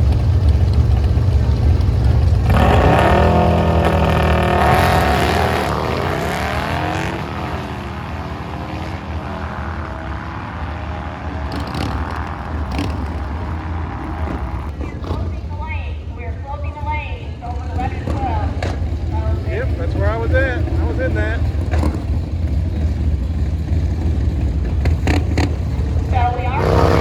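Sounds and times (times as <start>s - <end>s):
drag racing engines revving: 0.0s - 27.0s.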